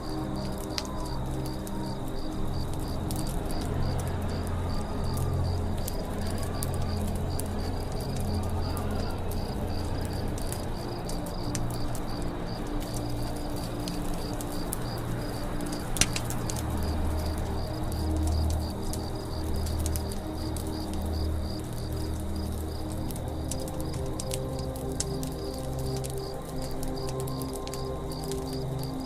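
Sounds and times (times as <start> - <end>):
campfire crackling and popping: 0.0 - 29.0
insects chirping: 0.0 - 29.0
low steady drone: 0.0 - 29.0.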